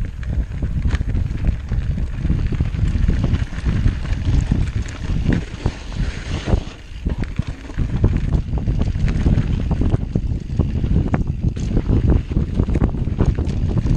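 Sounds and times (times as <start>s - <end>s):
bike knocks and rattles: 0.0s - 13.9s
wind rumbling on microphone: 0.0s - 13.9s.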